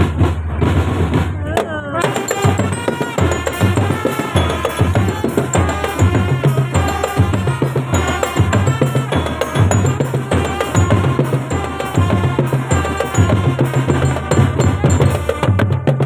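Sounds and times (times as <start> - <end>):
bass drums beating: 0.0 - 16.0
snare drums: 0.0 - 16.0
tuned instruments melody: 2.0 - 15.7.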